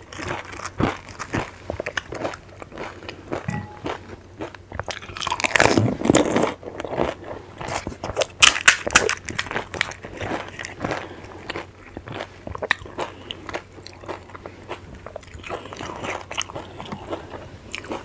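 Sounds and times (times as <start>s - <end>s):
crisp shells crunching in mouth: 0.0s - 18.0s.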